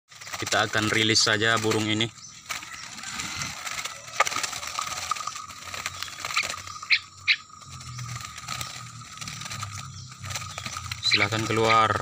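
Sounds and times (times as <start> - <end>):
birds fluttering in cage: 0.1 - 12.0.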